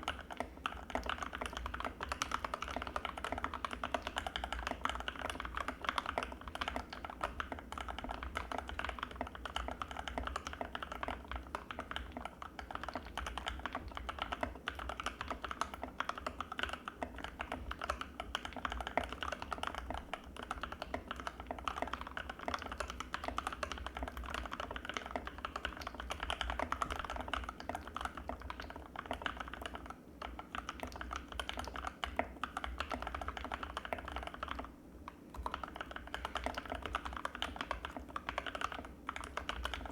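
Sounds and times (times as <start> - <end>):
fast typing on mechanical keyboard: 0.0 - 34.7, 35.3 - 39.9.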